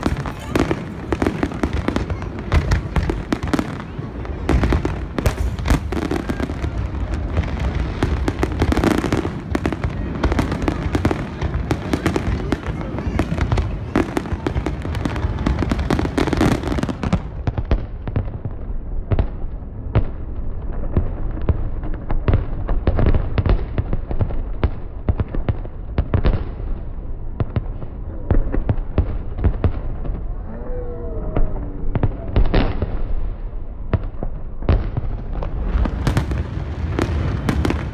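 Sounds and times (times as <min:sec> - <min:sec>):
fireworks bursting: 0:00.0 - 0:30.4, 0:31.4 - 0:37.9.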